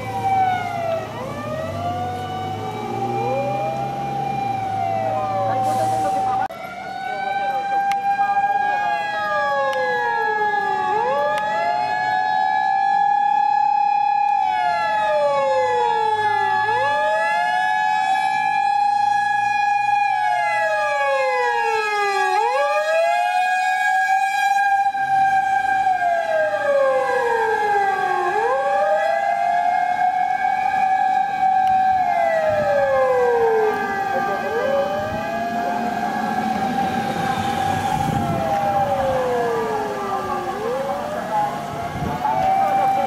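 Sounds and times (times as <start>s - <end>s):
steady high-pitched siren: 0.0s - 43.0s
wailing siren: 0.0s - 43.0s.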